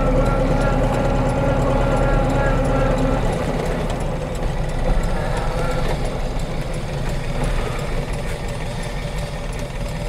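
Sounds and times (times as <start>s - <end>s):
car engine at low revs: 0.0s - 10.0s.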